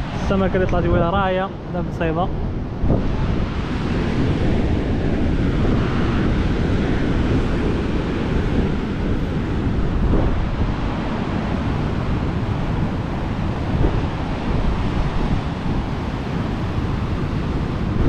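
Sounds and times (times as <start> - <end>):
heavy surf breaking: 0.0 - 18.0
wind on microphone: 0.0 - 18.0.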